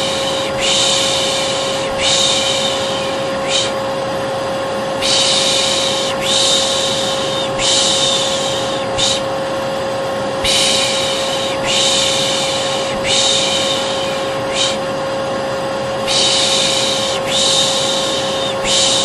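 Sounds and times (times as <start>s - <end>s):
person shushing: 0.0s - 3.8s, 5.0s - 9.3s, 10.4s - 14.9s, 16.0s - 19.0s
vacuum cleaner motor whining: 0.0s - 19.0s.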